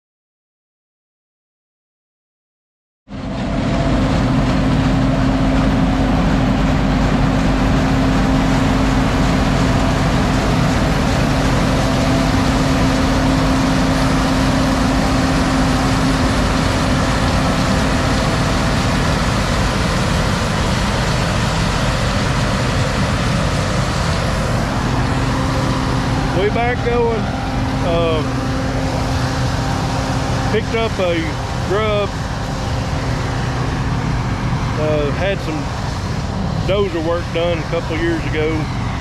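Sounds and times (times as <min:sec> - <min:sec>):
heavy diesel engine running: 0:03.1 - 0:39.0
low steady hum: 0:03.1 - 0:39.0.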